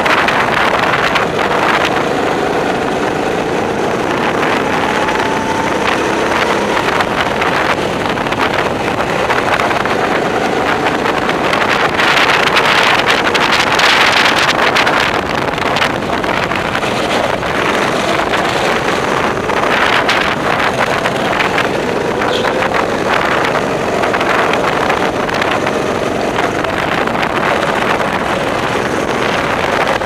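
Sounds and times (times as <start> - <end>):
go-kart engines running: 0.0 - 30.0
wind buffeting microphone: 0.0 - 30.0.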